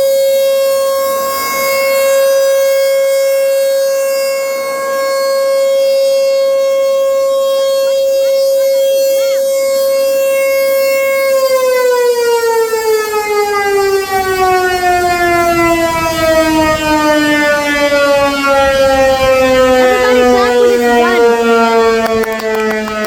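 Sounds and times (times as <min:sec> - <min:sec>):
tornado warning siren: 0:00.0 - 0:23.0.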